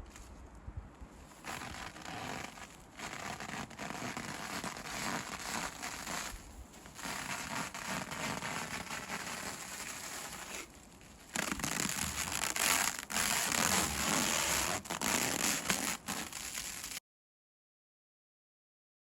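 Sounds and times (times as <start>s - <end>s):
plastic film crinkling: 1.3s - 17.0s.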